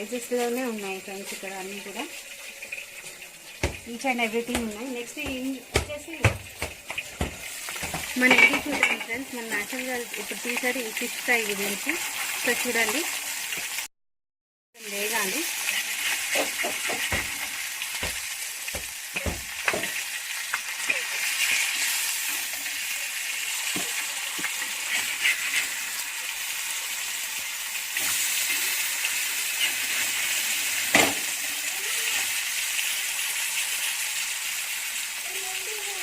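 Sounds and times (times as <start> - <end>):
fish frying in hot oil: 0.0 - 13.9, 14.8 - 36.0.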